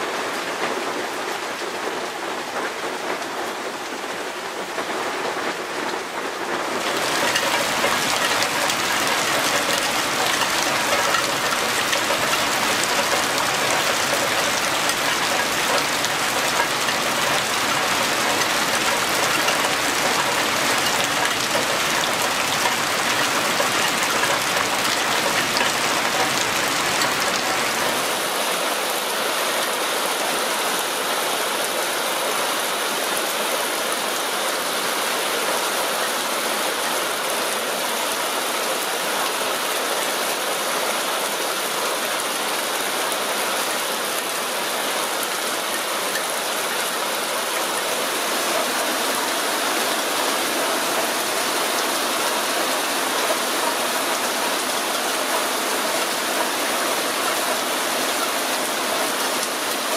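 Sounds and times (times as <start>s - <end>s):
heavy rain on foliage: 0.0s - 59.9s
rain splashing into water: 0.0s - 59.9s
rainwater pouring off roof: 0.0s - 59.9s.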